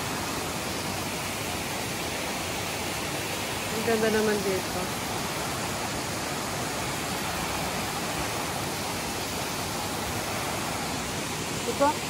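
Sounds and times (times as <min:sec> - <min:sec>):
waterfall rushing into stream: 0:00.0 - 0:12.0.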